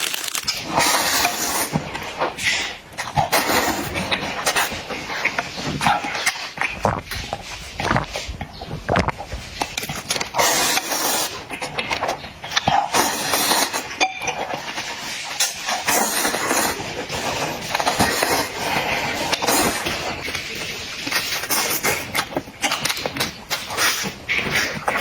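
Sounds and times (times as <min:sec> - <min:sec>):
noodles being slurped and chewed: 0:00.0 - 0:25.0.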